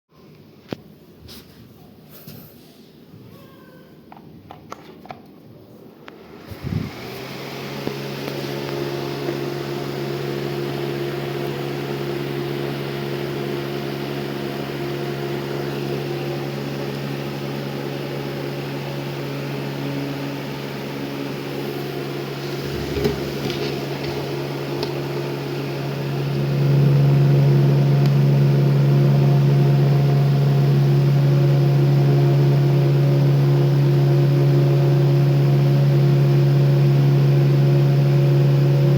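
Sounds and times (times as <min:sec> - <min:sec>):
electric fan humming: 0:04.0 - 0:38.9.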